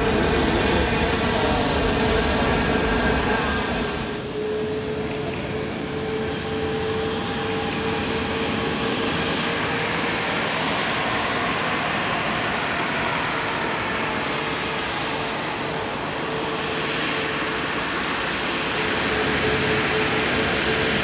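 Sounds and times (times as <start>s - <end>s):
jet engines at taxi power: 0.0s - 21.0s.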